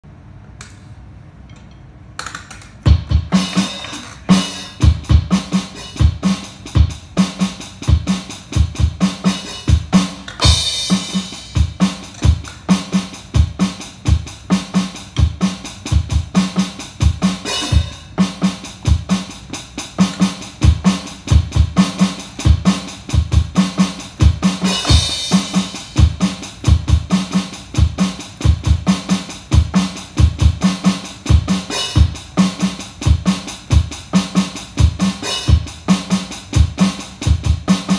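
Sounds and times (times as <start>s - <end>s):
drum beat with deep kick drum: 2.9s - 37.9s.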